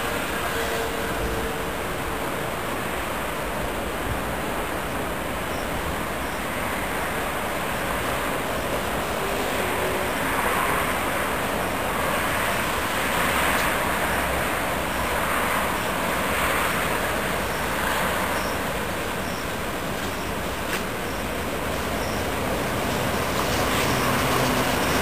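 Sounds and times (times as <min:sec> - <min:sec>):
locomotive rumble of wheels: 0:00.0 - 0:25.0.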